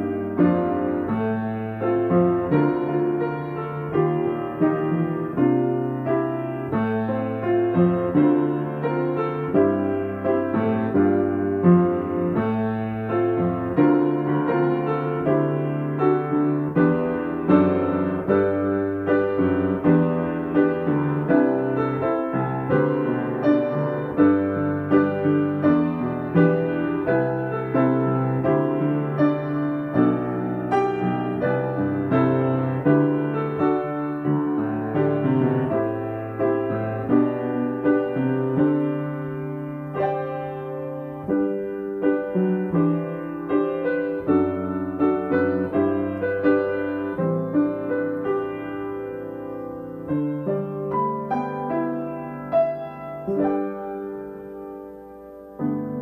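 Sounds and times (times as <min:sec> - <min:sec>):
solo piano hymn arrangement: 0:00.0 - 0:56.0.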